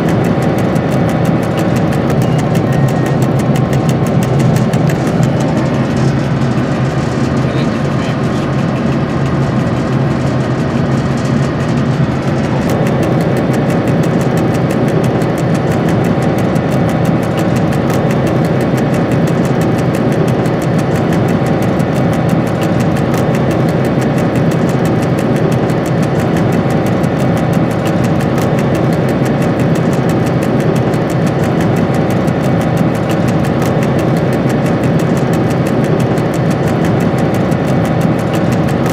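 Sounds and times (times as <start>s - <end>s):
locomotive diesel engine running: 0.0s - 38.9s
steady humming note: 0.0s - 38.9s.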